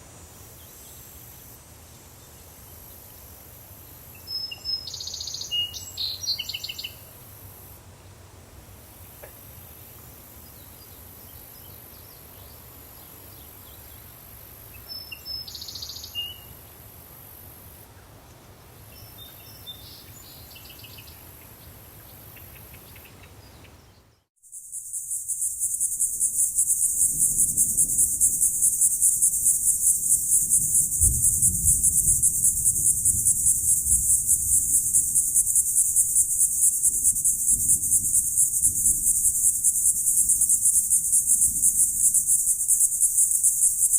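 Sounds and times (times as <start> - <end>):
crickets chirping: 0.0 - 18.0, 18.7 - 23.3, 24.4 - 43.9.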